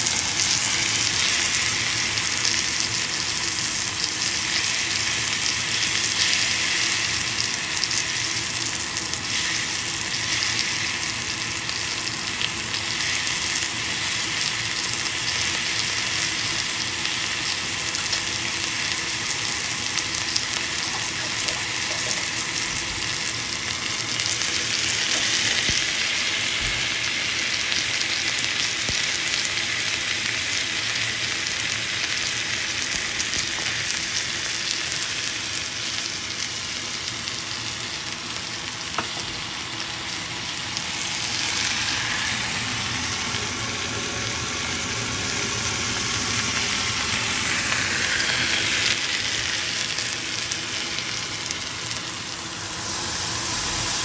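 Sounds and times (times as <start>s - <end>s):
steak sizzling in a skillet: 0.0s - 54.0s.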